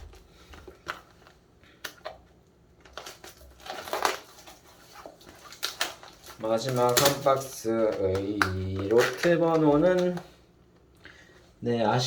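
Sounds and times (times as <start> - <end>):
card packaging tapping and rustling: 0.0 - 2.2, 2.8 - 10.3.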